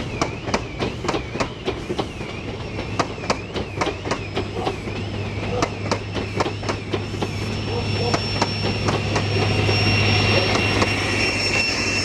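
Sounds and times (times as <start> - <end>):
train wheels clicking over rail joints: 0.0 - 11.8
high whine from train: 0.0 - 12.0.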